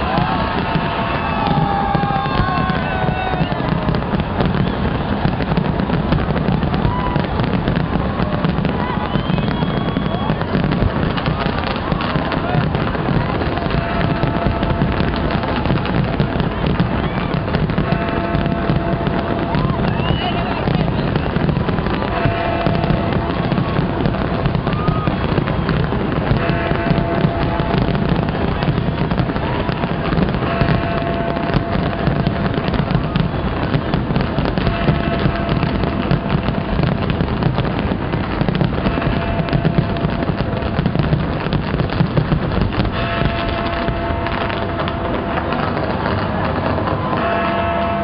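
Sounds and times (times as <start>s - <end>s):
deep fireworks booms: 0.0s - 48.0s
fireworks bangs and crackling: 0.0s - 48.0s.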